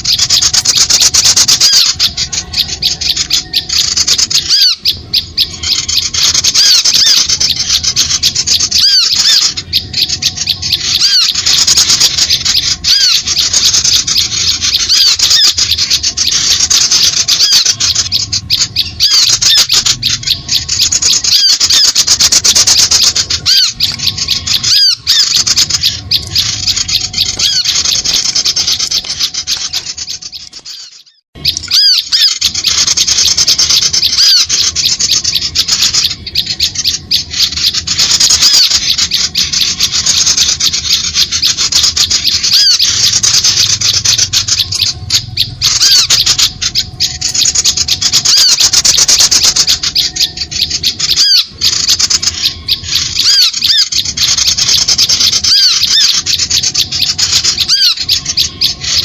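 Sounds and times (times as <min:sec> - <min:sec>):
small birds chattering and chirping: 0:00.0 - 0:59.0.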